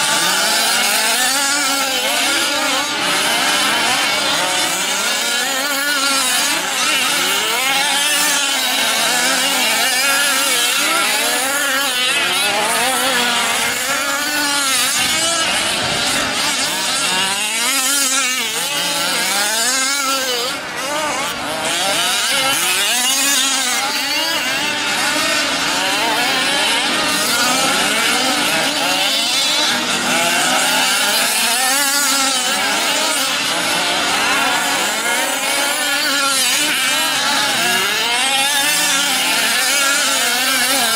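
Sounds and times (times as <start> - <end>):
rc truck engines revving: 0.0 - 40.9.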